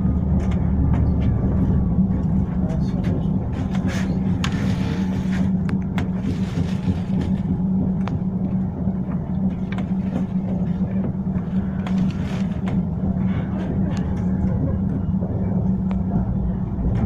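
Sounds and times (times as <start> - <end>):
tram low hum: 0.0 - 17.0
tram rumble: 0.0 - 17.0.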